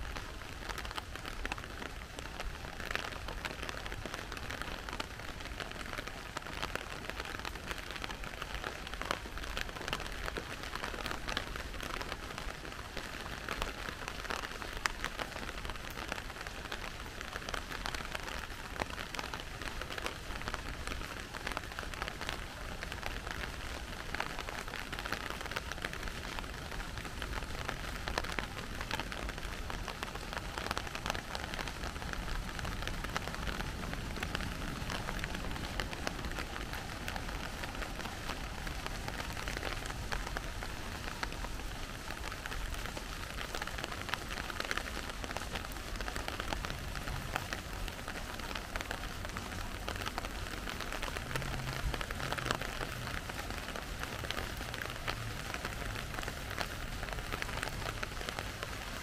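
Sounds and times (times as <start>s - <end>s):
rain drops ticking over hiss: 0.0s - 59.0s.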